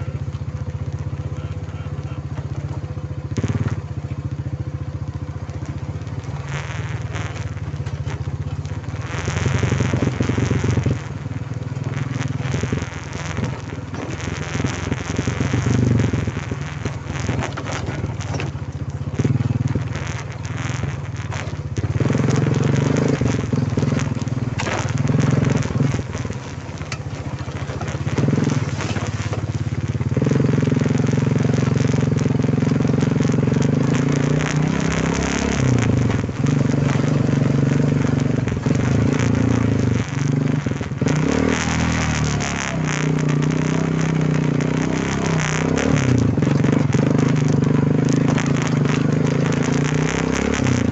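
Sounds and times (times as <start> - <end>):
quad bike engine running: 0.0 - 50.9
rough noise: 5.0 - 50.9.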